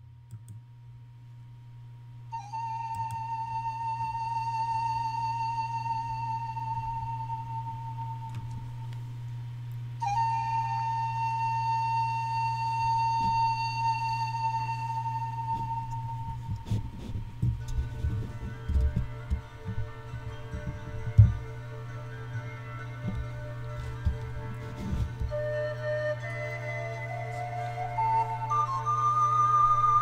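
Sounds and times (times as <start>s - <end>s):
pan flute notes with vibrato: 2.3s - 8.9s, 10.0s - 30.0s.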